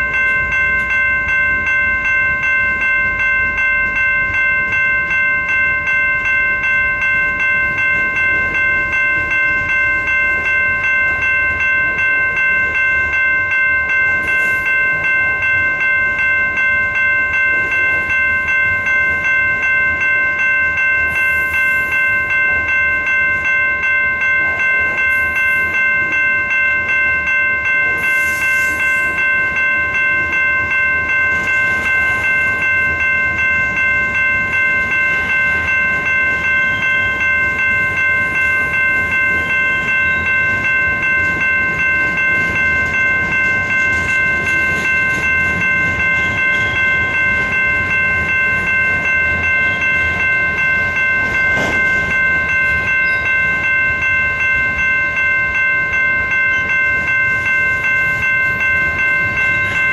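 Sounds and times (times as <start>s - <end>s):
crossing warning bell ringing: 0.0s - 59.9s
freight train rumbling past: 0.0s - 59.9s.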